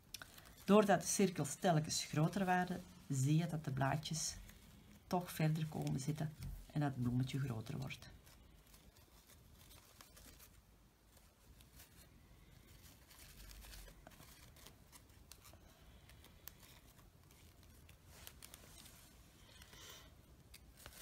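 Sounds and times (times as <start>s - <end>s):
faint fabric rustling: 0.0s - 21.0s.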